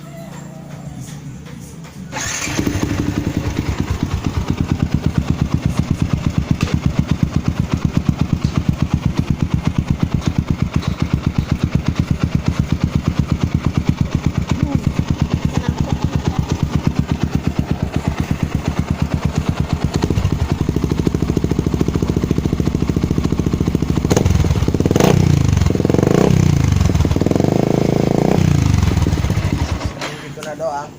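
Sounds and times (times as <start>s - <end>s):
engine revving: 2.1s - 30.0s
motorcycle engine idling: 2.1s - 30.0s.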